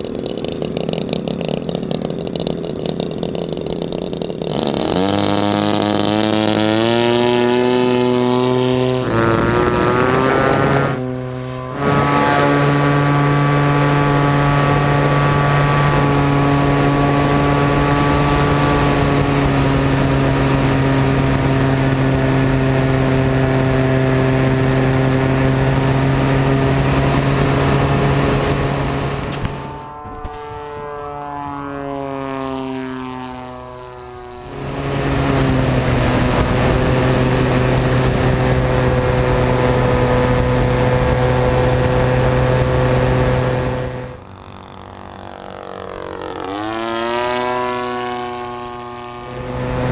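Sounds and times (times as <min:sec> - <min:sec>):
model plane engine droning: 0:00.0 - 0:49.9.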